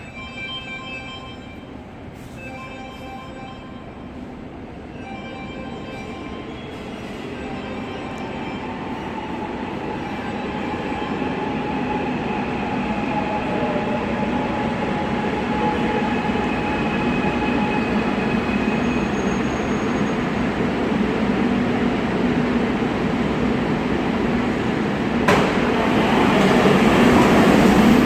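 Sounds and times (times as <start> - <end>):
subway train rumble: 0.0 - 28.0
train whining tones: 5.0 - 28.0.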